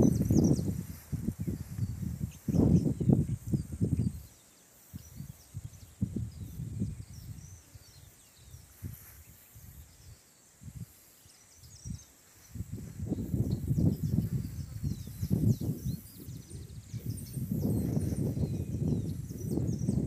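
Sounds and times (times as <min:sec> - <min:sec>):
wind buffeting microphone: 0:00.0 - 0:04.3, 0:05.0 - 0:10.9, 0:11.6 - 0:20.0
faint bird chirps: 0:00.0 - 0:20.0.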